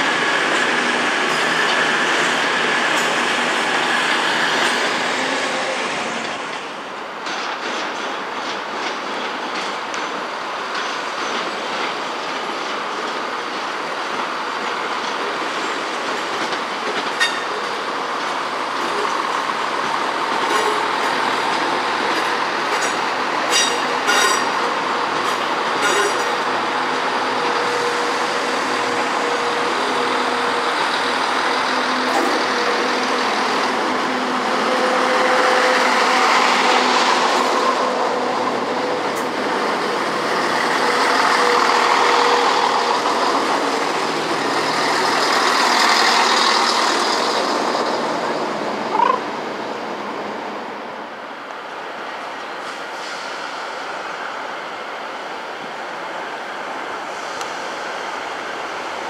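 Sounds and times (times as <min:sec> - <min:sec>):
train running through station: 0:00.0 - 0:59.0.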